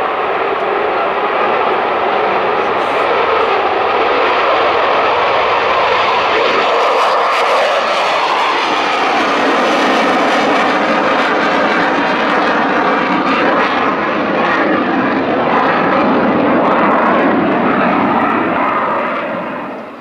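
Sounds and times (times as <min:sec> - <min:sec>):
jet engines running: 0:00.0 - 0:14.1, 0:15.2 - 0:20.0.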